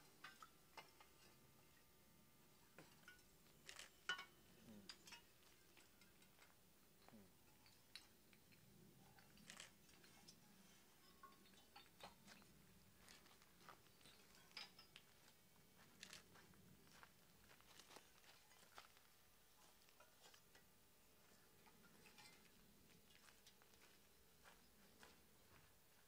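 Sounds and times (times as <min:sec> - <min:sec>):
terracotta pots clinking: 0:00.0 - 0:25.9.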